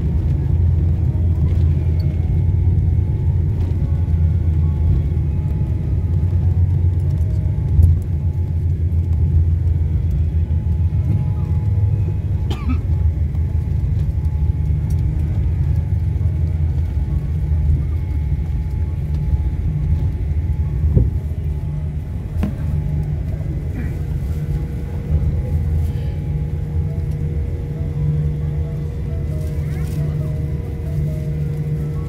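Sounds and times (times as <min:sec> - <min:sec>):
airliner cabin rumble: 0:00.0 - 0:32.0
faint steady whine: 0:00.0 - 0:32.0.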